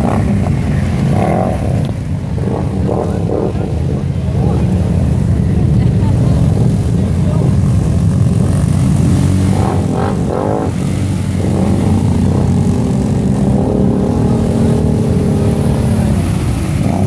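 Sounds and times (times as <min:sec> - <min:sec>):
quad bike engines revving: 0:00.0 - 0:17.0.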